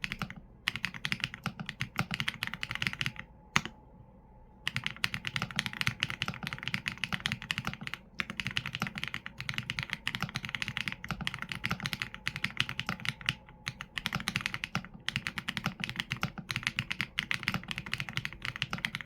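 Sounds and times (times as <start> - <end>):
fast typing on mechanical keyboard: 0.0 - 3.7, 4.6 - 19.0.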